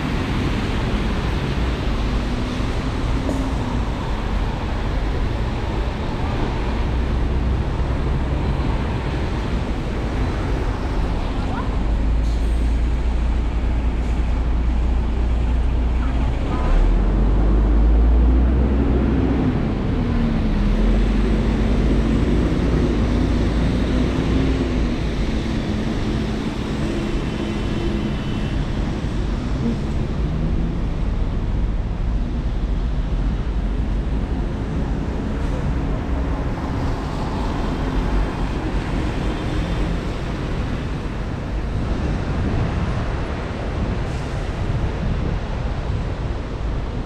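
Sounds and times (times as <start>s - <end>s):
vehicle engines humming: 0.0s - 47.0s.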